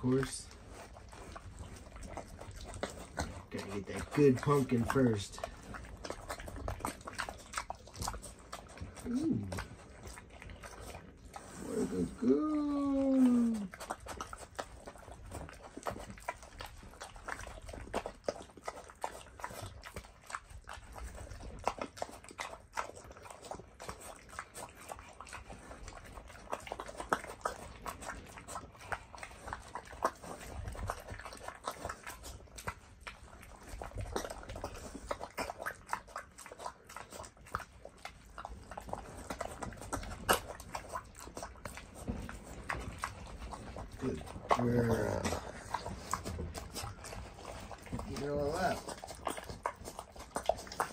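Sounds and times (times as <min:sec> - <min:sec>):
pig chewing and smacking: 0:00.0 - 0:50.9.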